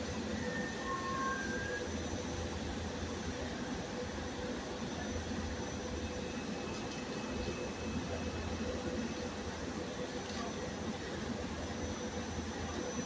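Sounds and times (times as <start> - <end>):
electric train slowing to a stop: 0.0 - 13.0.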